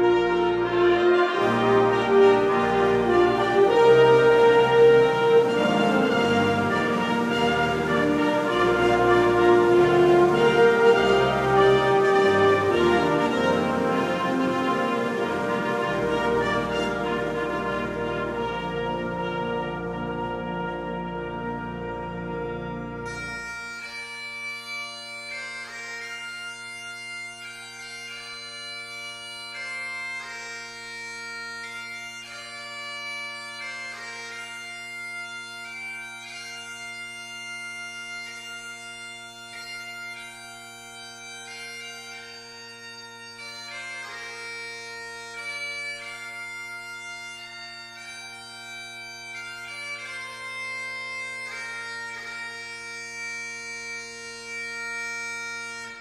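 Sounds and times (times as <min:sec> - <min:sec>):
bagpipe chanter melody: 0:00.0 - 0:56.0
bagpipe drones: 0:00.0 - 0:56.0.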